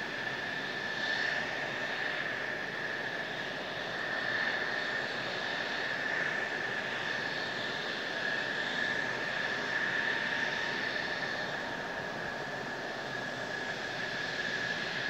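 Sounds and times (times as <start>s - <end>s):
jet engine whining: 0.0s - 15.0s.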